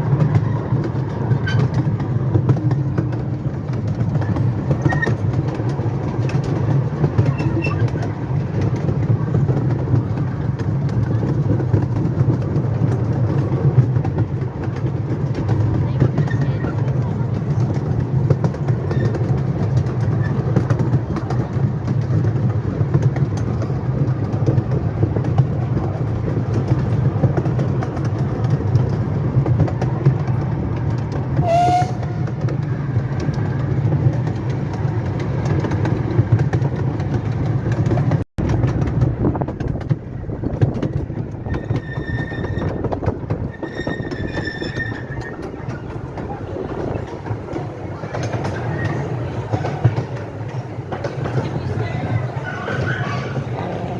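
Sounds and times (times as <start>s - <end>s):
clicks over rail joints: 0.0s - 53.9s
train wheels rumbling on track: 0.0s - 53.9s.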